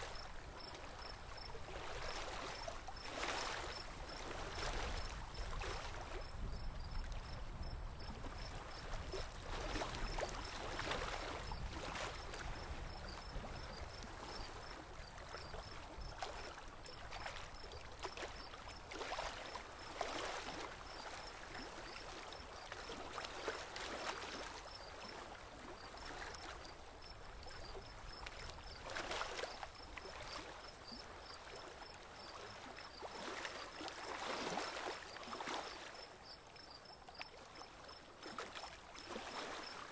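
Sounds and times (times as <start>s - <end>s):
water lapping against boat hull: 0.0s - 39.9s.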